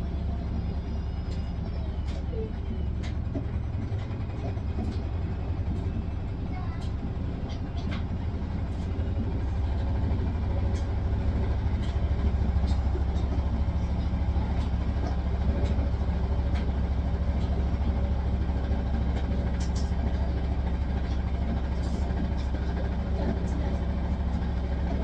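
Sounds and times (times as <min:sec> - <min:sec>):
washing machine spinning: 0:00.0 - 0:25.0.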